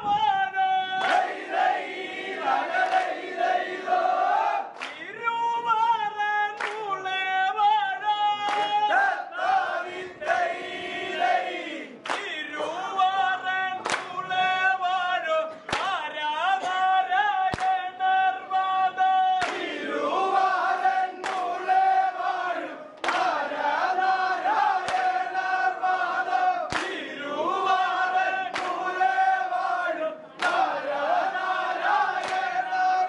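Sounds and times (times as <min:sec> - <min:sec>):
group of voices singing: 0:00.0 - 0:05.3, 0:06.0 - 0:33.0.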